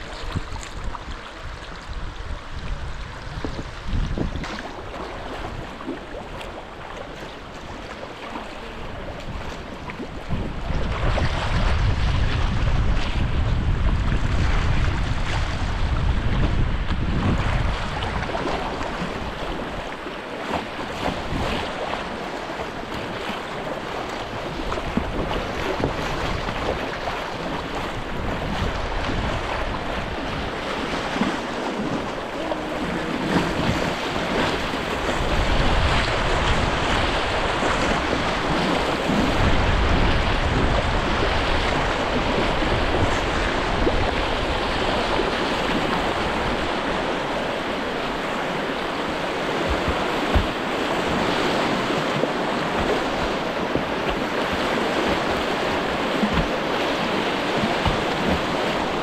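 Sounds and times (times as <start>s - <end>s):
paddle strokes splashing: 0.0s - 59.0s
river water rushing and splashing: 0.0s - 59.0s
wind buffeting microphone: 0.0s - 59.0s.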